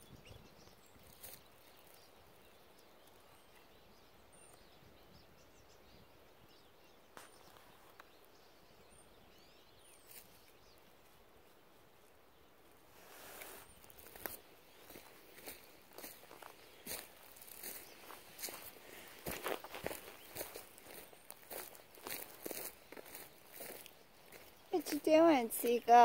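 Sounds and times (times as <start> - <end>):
distant bird chirps: 0.0 - 26.0.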